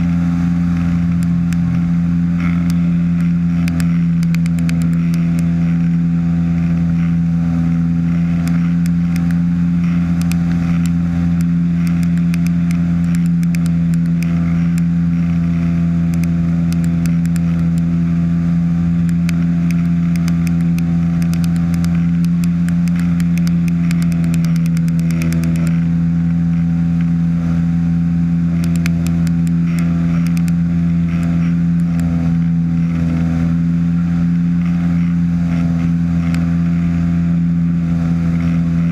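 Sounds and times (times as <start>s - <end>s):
engine and propeller droning: 0.0s - 38.9s.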